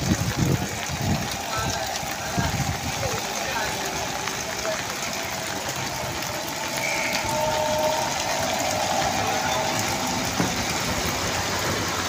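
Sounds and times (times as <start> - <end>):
bus engine humming: 0.0 - 12.0
wheels splashing through water: 0.0 - 12.0.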